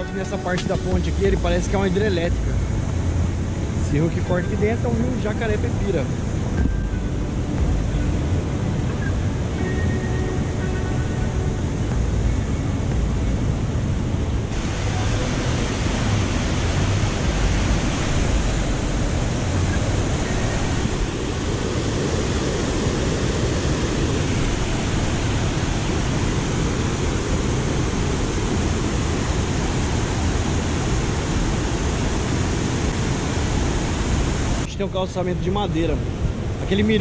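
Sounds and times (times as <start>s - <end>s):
waterfall and rapids rushing: 0.0s - 37.0s.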